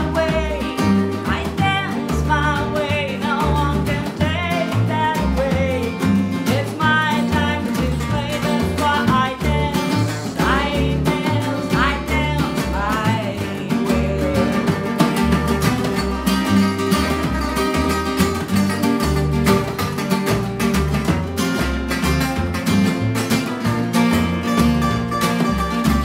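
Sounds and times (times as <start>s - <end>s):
small band playing live: 0.0s - 26.0s
upright bass notes: 0.0s - 26.0s.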